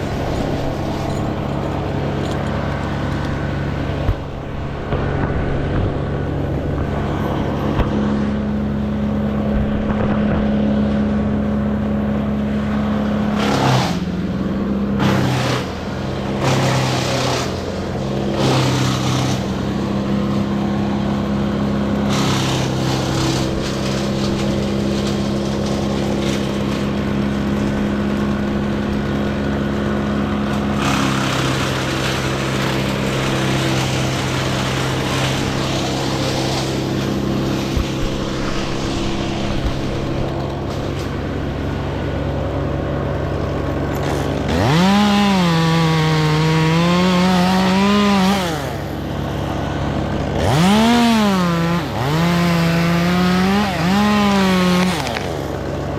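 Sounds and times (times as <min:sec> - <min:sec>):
engine-driven machine running: 0:00.0 - 0:55.9.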